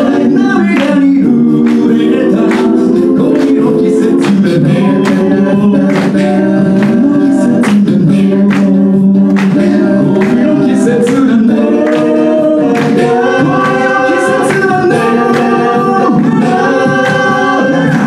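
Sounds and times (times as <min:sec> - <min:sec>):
beatboxed beat: 0:00.0 - 0:18.0
vocal group singing harmonies: 0:00.0 - 0:18.0.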